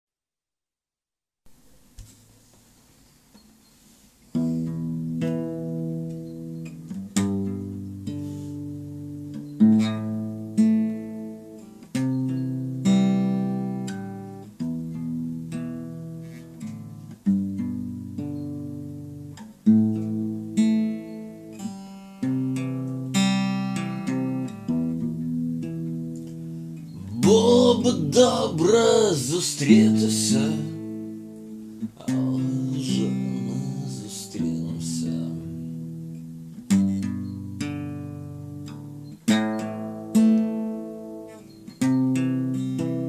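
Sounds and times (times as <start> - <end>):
acoustic guitar chords: 4.3 - 43.0.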